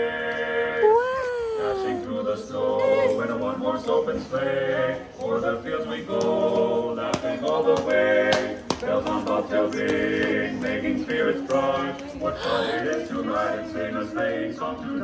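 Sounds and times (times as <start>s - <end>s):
male voices singing in harmony: 0.0s - 15.0s.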